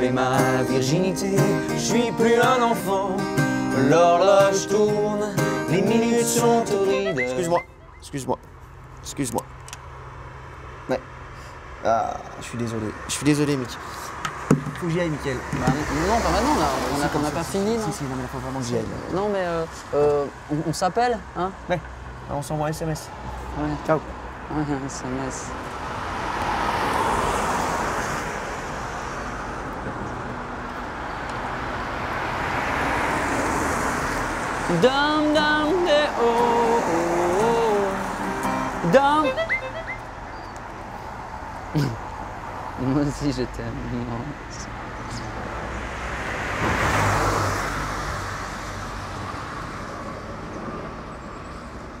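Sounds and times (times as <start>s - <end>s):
road vehicle passing: 0.0s - 52.0s.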